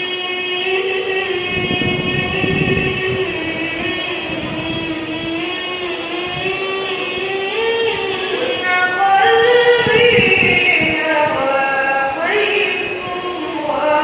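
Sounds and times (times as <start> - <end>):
person singing melismatic chant: 0.0 - 14.0.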